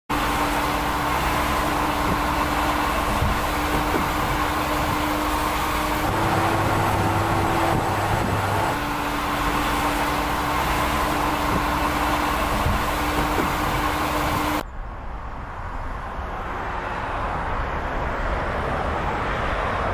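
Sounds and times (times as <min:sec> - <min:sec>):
truck driving on a motorway: 0:00.0 - 0:19.9.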